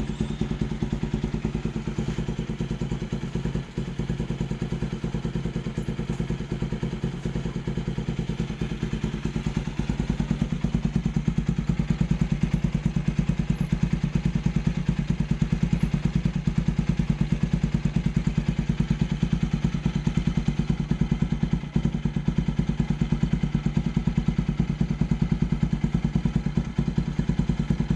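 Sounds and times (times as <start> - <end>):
motorcycle idling: 0.0 - 27.9.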